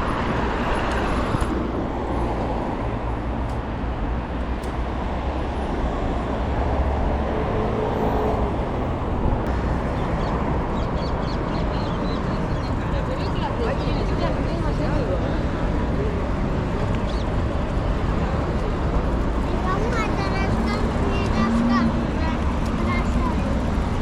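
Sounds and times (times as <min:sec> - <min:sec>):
cars passing: 0:00.0 - 0:24.0
low traffic rumble: 0:00.0 - 0:24.0.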